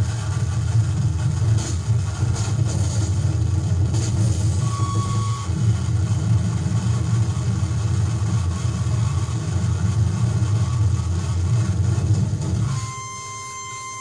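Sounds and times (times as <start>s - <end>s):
distorted low rumble: 0.0s - 14.0s.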